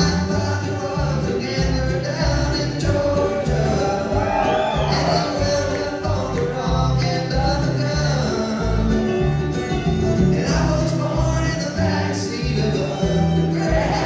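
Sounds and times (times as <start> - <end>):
acoustic guitar: 0.0 - 14.0
fiddle: 0.0 - 14.0
upright bass line: 0.0 - 14.0.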